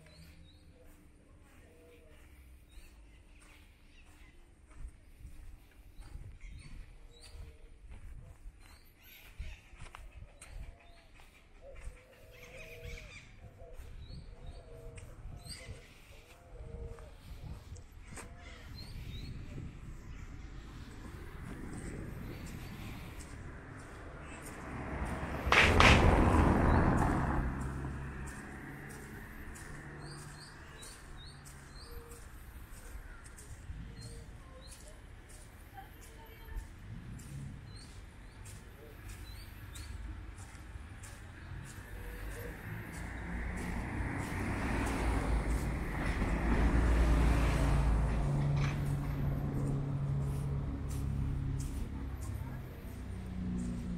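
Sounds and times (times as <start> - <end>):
birds chirping: 0.0 - 50.4.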